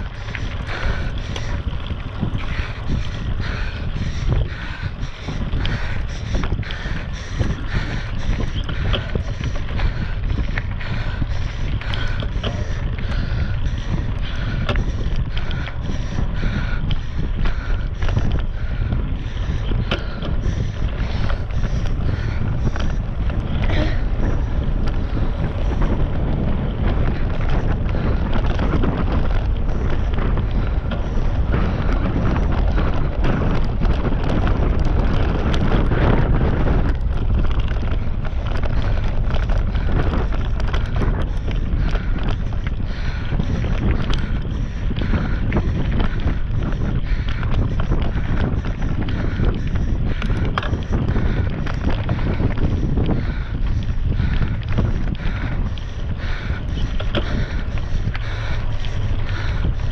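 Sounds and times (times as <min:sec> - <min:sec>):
bike crackles: 0:00.0 - 0:59.9
wind rumbling on microphone: 0:00.0 - 0:59.9.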